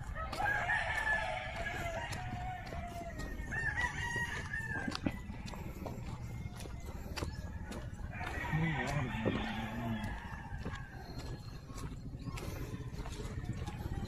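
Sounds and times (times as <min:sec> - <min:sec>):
rooster crowing: 0:00.0 - 0:11.4.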